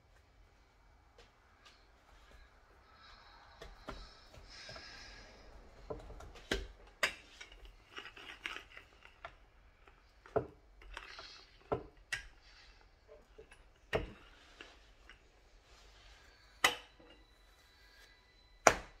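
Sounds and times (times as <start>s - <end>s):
rolling pin rolling dough: 3.1s - 19.0s.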